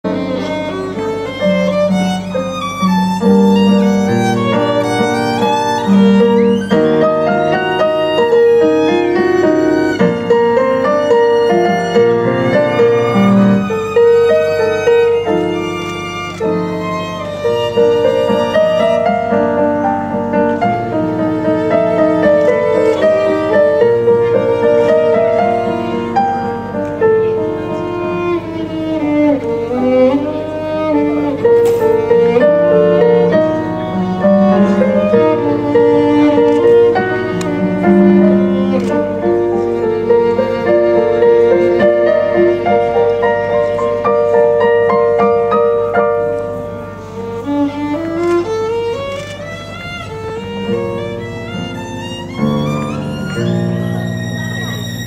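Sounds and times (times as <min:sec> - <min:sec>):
bowed violin melody: 0:00.0 - 0:55.0
piano accompaniment: 0:00.0 - 0:55.0.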